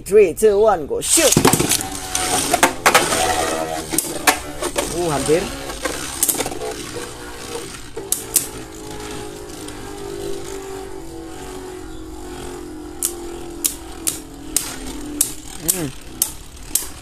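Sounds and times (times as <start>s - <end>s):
spinning tops whirring: 1.0s - 17.0s
spinning tops clacking: 1.1s - 17.0s.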